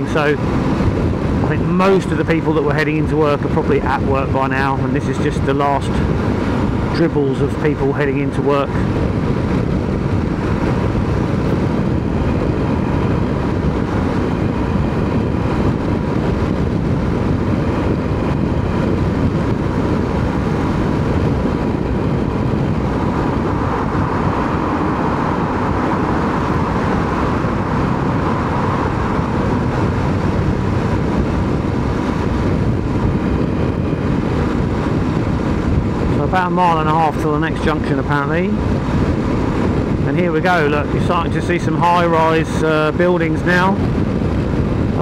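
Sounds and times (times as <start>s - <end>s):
road and wind noise: 0.0s - 45.0s
higher hum: 3.4s - 42.6s
motorcycle engine cruising: 4.0s - 45.0s.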